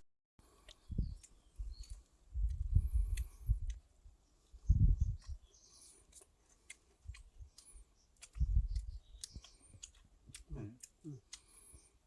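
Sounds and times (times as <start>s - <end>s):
crunchy chewing: 0.5s - 3.9s, 5.1s - 12.0s.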